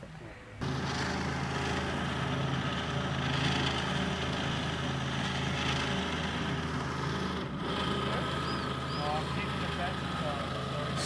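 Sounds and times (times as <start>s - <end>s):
motor engine running: 0.6s - 11.0s.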